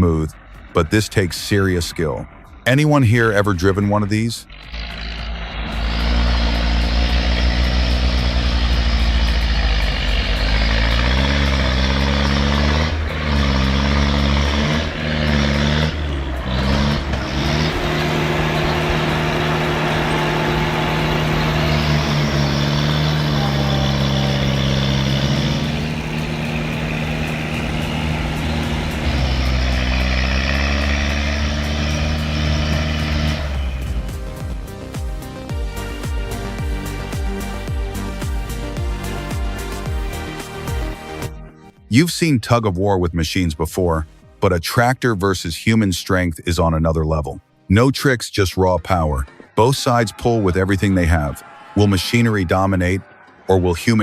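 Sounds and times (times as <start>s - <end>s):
tractor diesel engine running: 0.0s - 42.2s, 49.1s - 54.0s.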